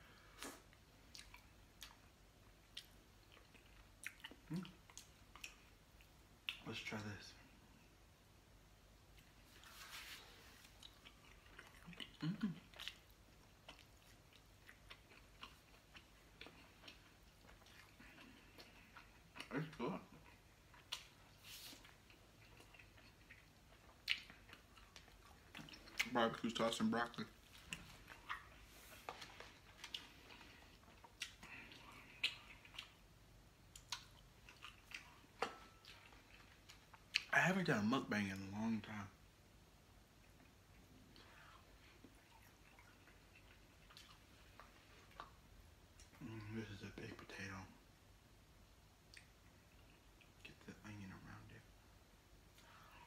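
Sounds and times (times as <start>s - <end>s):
person chewing food: 0.0s - 6.6s, 9.0s - 37.3s, 40.0s - 47.3s, 48.6s - 50.5s.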